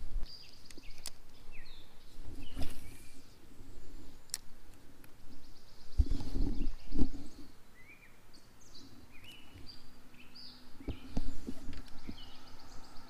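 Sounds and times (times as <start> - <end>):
small bird chirping: 0.2 - 4.4, 5.2 - 13.0.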